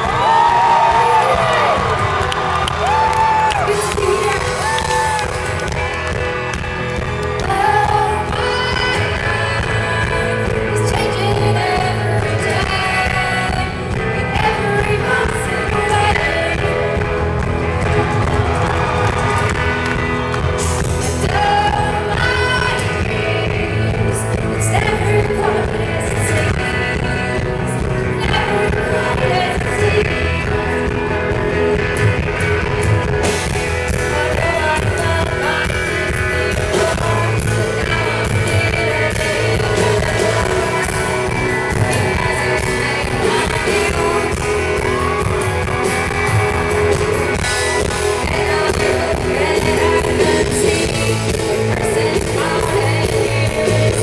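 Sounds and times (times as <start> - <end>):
woman singing: 0.0 - 5.8, 7.3 - 17.9, 20.8 - 32.5, 33.3 - 54.0
electric guitar: 0.0 - 54.0
live rock band playing: 0.0 - 54.0.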